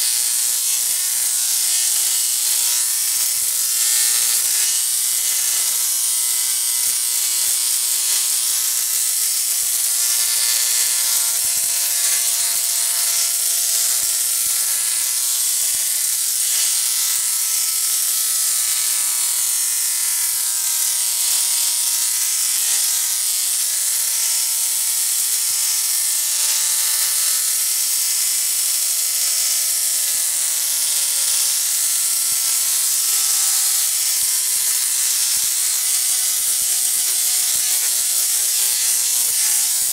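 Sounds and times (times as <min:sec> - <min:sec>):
tesla coil buzzing and crackling: 0:00.0 - 0:39.9.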